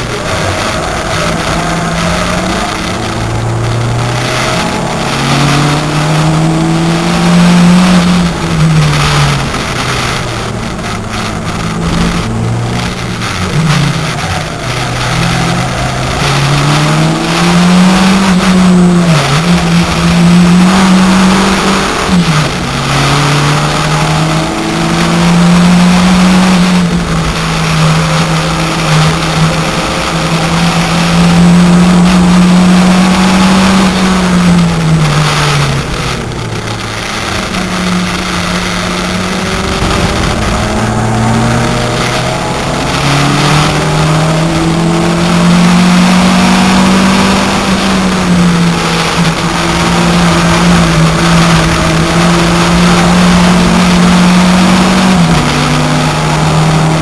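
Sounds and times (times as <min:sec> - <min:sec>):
car engine revving from inside cabin: 0:00.0 - 0:57.0.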